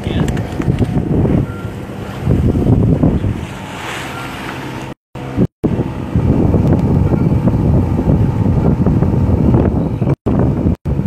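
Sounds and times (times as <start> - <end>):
water rushing: 0.0 - 9.8
boat engine running: 0.0 - 11.0
wind buffeting microphone: 0.0 - 11.0.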